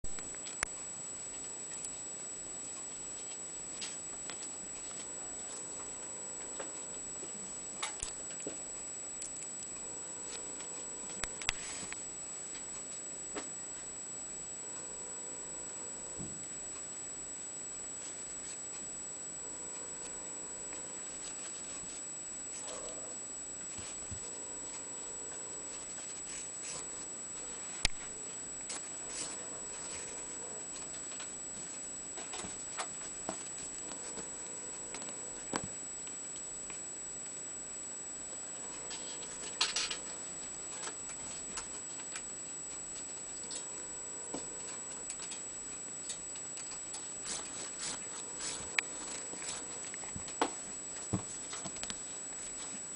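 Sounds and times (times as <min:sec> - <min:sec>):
high whine: 0:00.0 - 0:52.9.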